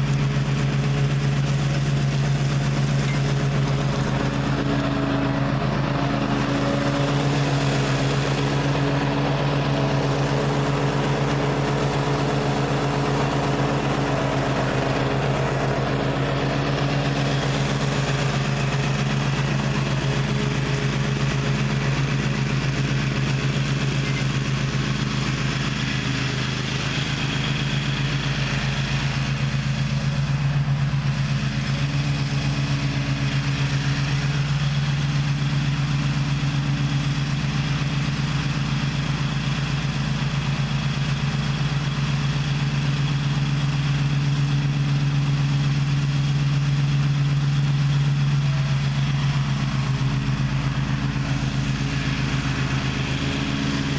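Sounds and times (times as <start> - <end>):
mower engine running: 0.0 - 53.9.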